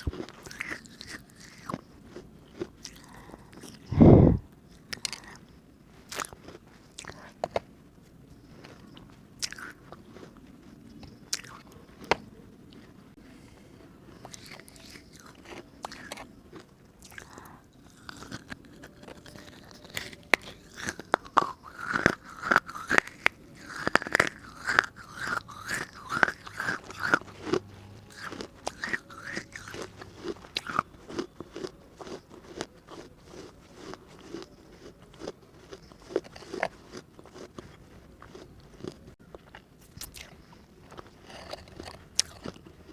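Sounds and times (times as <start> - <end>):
biting and crunching clay: 0.0 - 5.4, 6.1 - 7.7, 8.6 - 12.3, 14.2 - 42.9.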